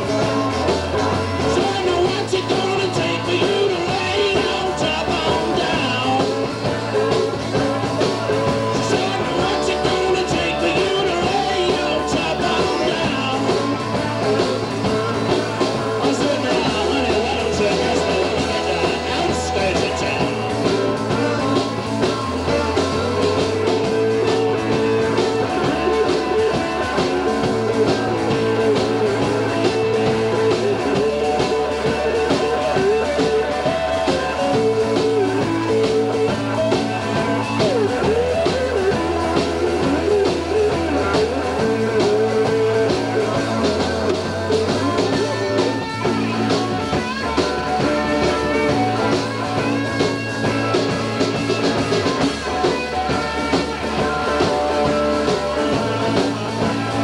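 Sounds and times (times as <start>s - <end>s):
bass guitar: 0.0s - 57.0s
blues rock band playing: 0.0s - 57.0s.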